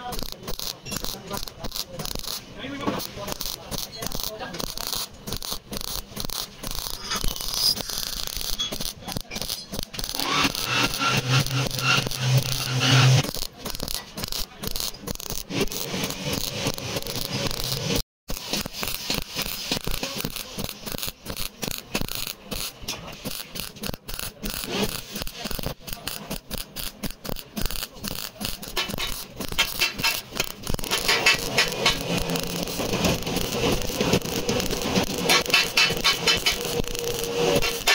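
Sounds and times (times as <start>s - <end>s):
welding torch crackling: 0.0s - 37.9s.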